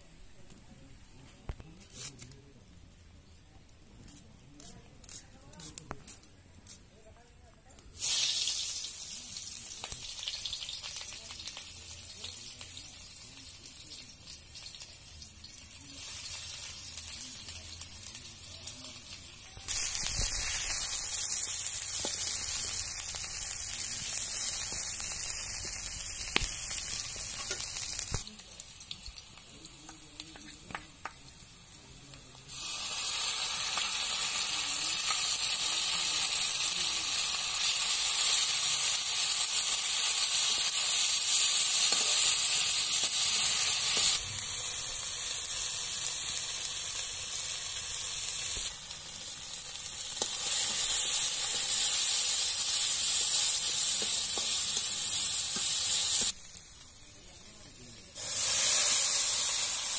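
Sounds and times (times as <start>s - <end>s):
onions sizzling in oil: 7.8s - 59.9s.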